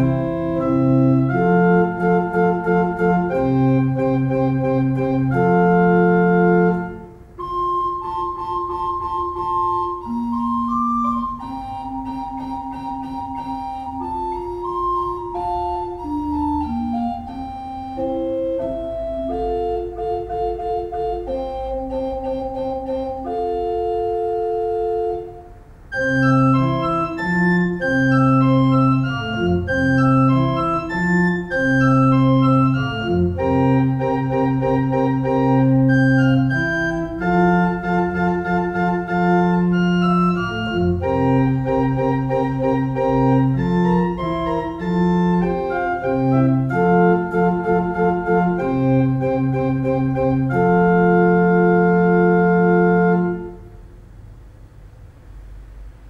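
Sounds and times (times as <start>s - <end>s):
pipe organ playing minuet: 0.0s - 53.8s.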